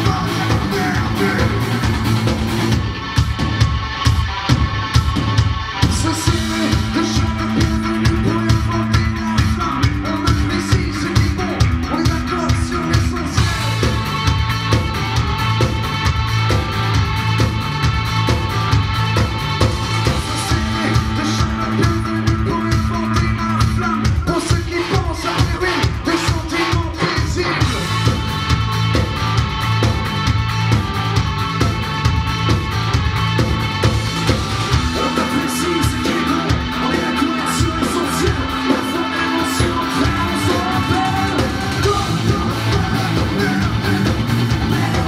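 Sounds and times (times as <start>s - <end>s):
bass guitar: 0.0s - 45.0s
distorted electric guitars: 0.0s - 45.0s
drum kit beat: 0.0s - 45.0s.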